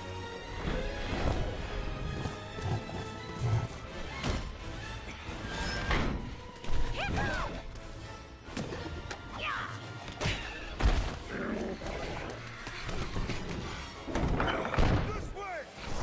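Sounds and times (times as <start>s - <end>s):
dramatic orchestral score: 0.0s - 16.0s.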